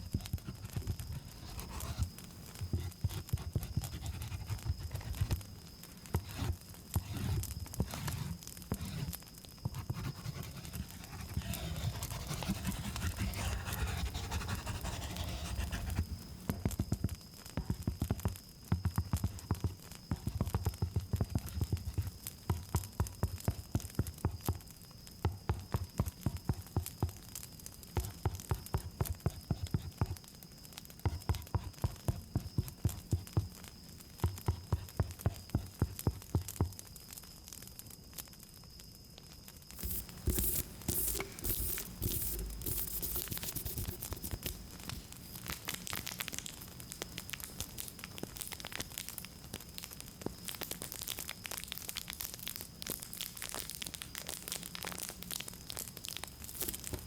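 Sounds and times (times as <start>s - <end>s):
crickets droning: 0.0s - 57.0s.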